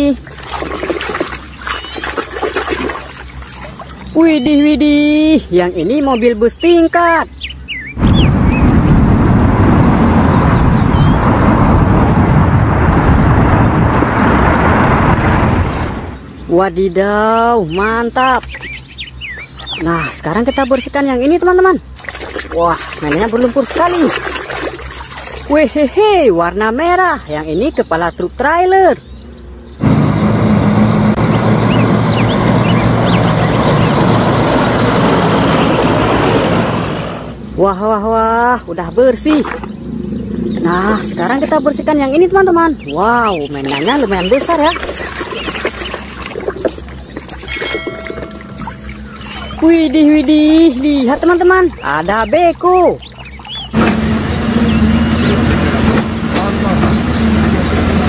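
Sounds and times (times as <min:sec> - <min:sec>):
bus engine and tyre rumble: 0:08.0 - 0:27.0, 0:29.3 - 0:58.0.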